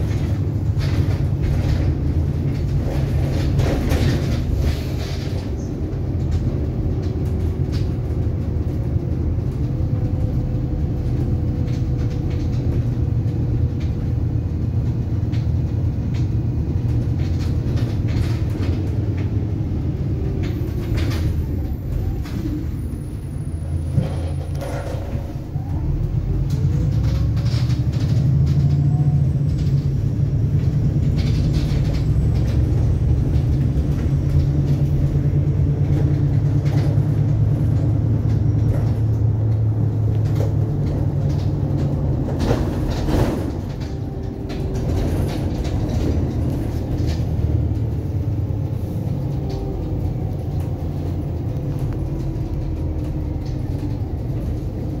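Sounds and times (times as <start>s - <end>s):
bus engine and road rumble: 0.0s - 55.0s
rattling bus fittings: 0.0s - 55.0s.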